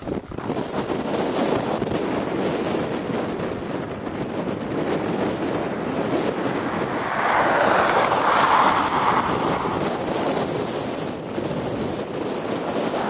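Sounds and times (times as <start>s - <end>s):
blizzard wind on microphone: 0.0s - 13.0s.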